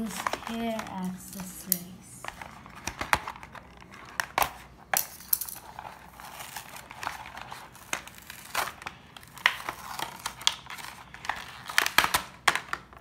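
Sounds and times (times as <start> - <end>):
plastic packaging crackling: 0.0 - 4.8, 5.5 - 13.0.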